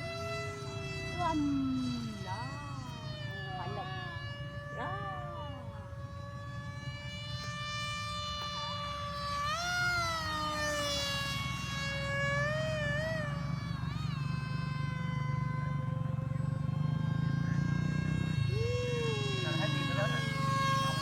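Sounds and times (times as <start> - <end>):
model airplane motor whining: 0.0 - 21.0.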